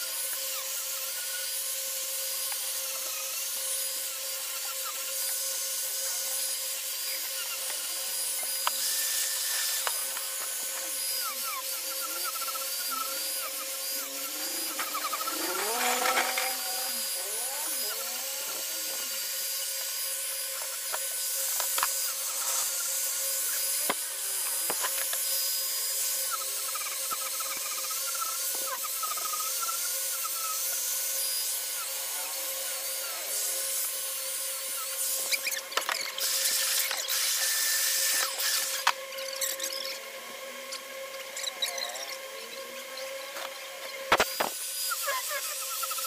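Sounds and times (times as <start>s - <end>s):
angle grinder sanding wood: 0.0s - 46.0s.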